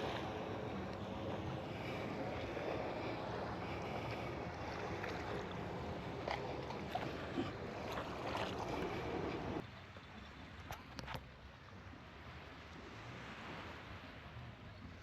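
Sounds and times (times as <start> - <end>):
water at the shore: 0.0 - 15.0
wind: 0.0 - 15.0.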